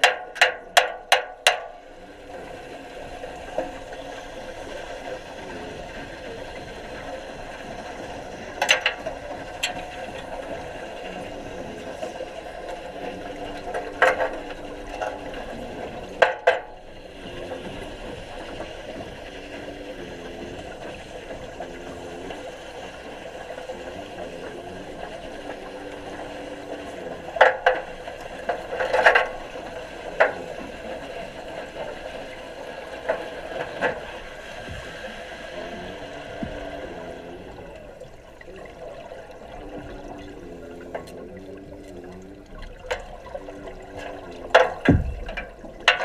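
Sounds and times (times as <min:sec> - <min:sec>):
muffled underwater noise: 0:00.0 - 0:46.0.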